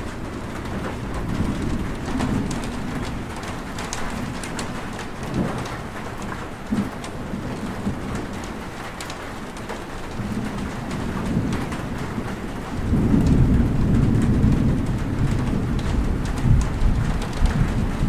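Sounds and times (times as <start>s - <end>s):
raindrop ticks: 0.0s - 18.0s
steady rain: 0.0s - 18.0s
thunder rumbling: 0.0s - 18.0s.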